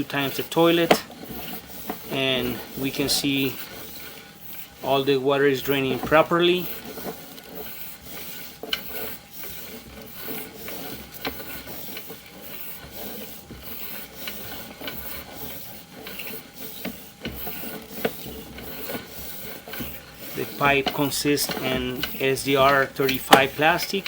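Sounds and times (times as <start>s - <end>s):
cable scraping in a pipe: 0.0s - 24.0s.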